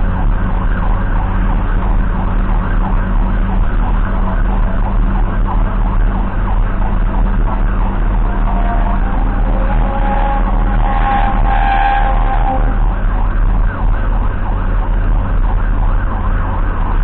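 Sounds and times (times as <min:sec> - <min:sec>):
siren yelping: 0:00.0 - 0:17.0
vehicle engine drone and road noise: 0:00.0 - 0:17.0.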